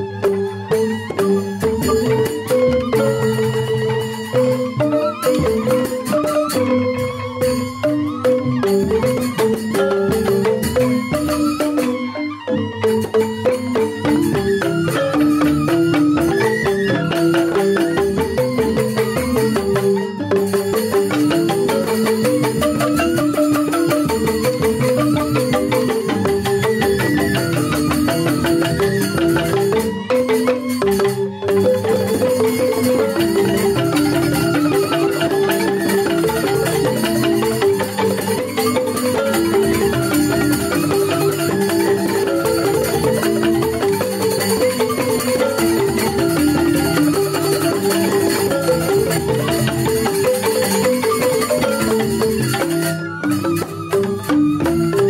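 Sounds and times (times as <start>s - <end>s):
bamboo flutes melody: 0.0s - 55.0s
bamboo xylophones: 0.0s - 55.0s.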